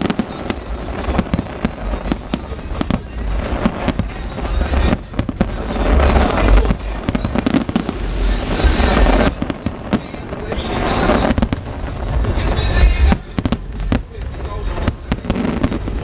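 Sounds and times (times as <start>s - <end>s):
fireworks booms and bangs: 0.0s - 16.0s
fireworks crackling: 0.0s - 16.0s.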